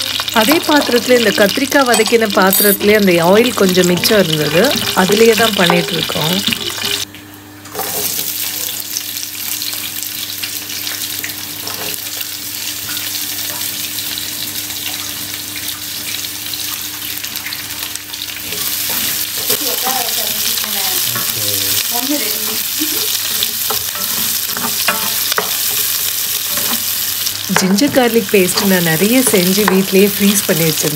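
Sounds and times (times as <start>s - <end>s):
onion sizzling in hot oil: 0.0s - 7.1s, 7.7s - 30.9s.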